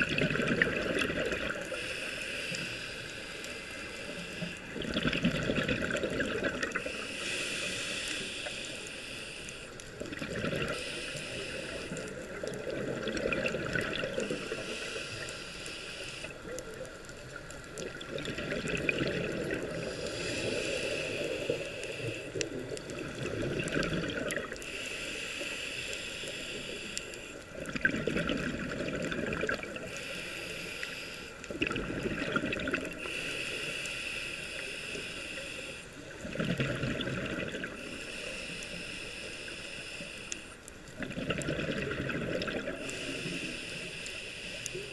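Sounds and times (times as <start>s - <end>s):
scuba regulator breathing: 0.7s - 17.9s, 18.8s - 27.7s, 29.6s - 44.9s.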